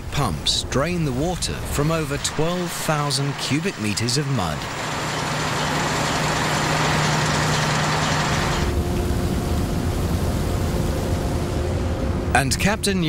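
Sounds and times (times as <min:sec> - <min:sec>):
large pumps rushing: 0:00.0 - 0:12.9
ship engines droning: 0:00.3 - 0:13.0.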